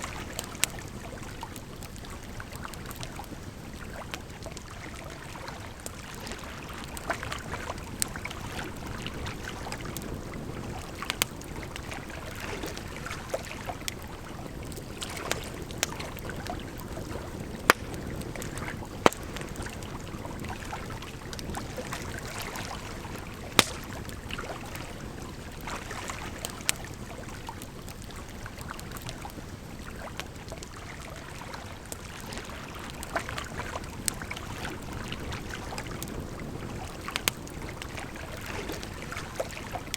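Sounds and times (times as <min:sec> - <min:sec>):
campfire crackling and popping: 0:00.0 - 0:39.9
rushing water: 0:00.0 - 0:39.9.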